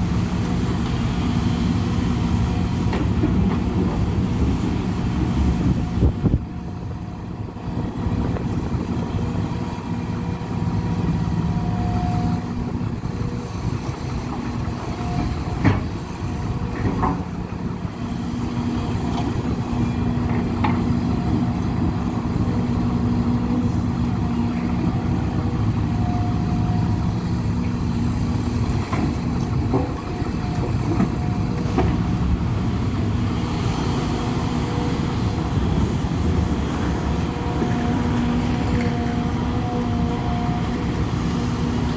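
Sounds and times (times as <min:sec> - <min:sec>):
excavator engine and hydraulics: 0:00.0 - 0:41.9.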